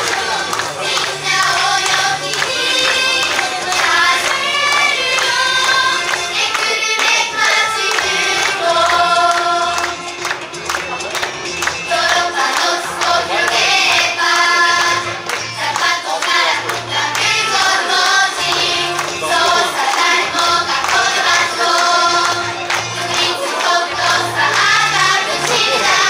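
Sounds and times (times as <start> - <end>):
girls singing pop song together: 0.0 - 10.0, 11.9 - 26.0.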